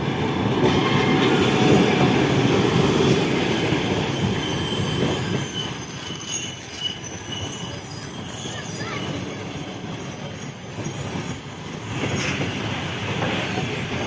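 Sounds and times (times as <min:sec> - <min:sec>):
train wheels rumbling on rails: 0:00.0 - 0:14.0
high-pitched wheel squeal: 0:02.2 - 0:14.0.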